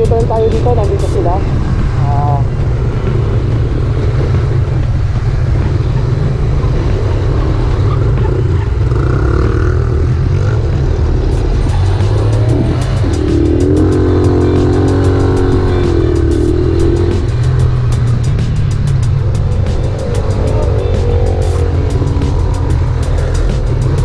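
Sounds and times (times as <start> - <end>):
motorcycle engine drone: 0.0 - 24.0
wind rumble on microphone: 0.0 - 24.0.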